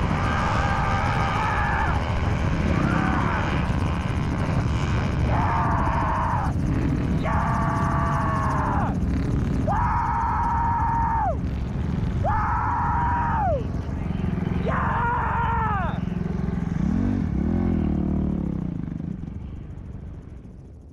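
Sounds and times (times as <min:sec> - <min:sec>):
dirt bike engines revving: 0:00.0 - 0:20.7
engine climbing a slope: 0:00.0 - 0:20.9
low engine rumble: 0:00.0 - 0:20.9.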